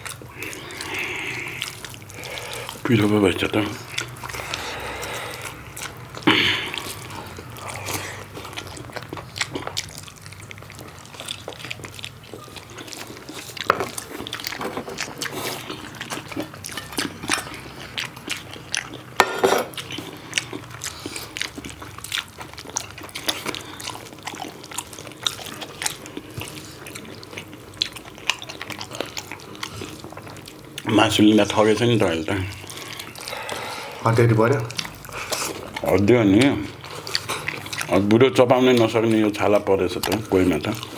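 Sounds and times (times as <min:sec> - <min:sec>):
lip smacking: 0:00.0 - 0:40.9
wet chewing: 0:00.0 - 0:40.9.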